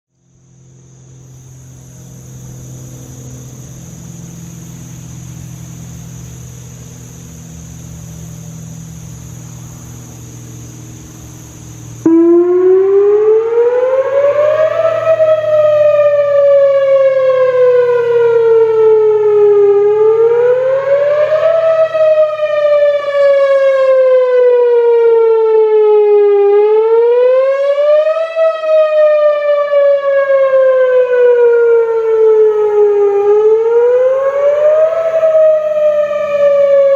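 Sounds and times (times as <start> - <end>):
rotating warning siren wailing: 1.5 - 36.9.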